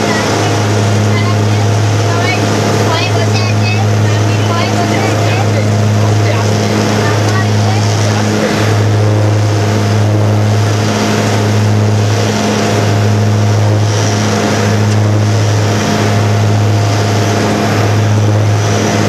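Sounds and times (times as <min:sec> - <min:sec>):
propeller airplane engine drone: 0:00.0 - 0:19.0.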